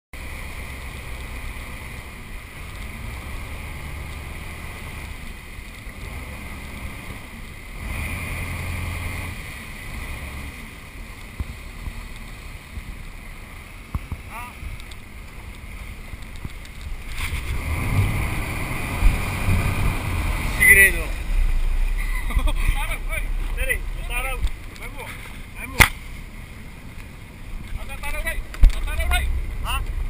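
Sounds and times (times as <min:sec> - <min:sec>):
low boat rumble: 0:00.2 - 0:30.0
wind and water rushing: 0:00.2 - 0:30.0.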